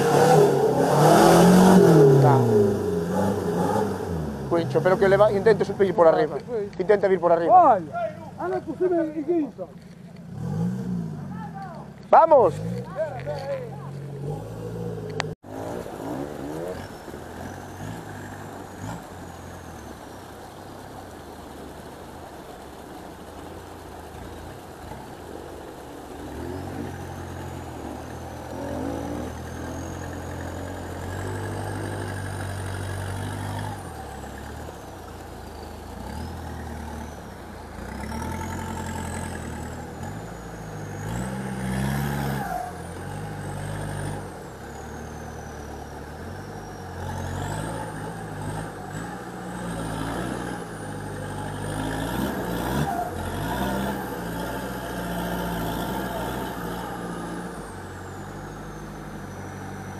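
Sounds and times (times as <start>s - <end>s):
engine revving under load: 0.0s - 9.0s, 10.2s - 20.2s, 24.1s - 59.9s.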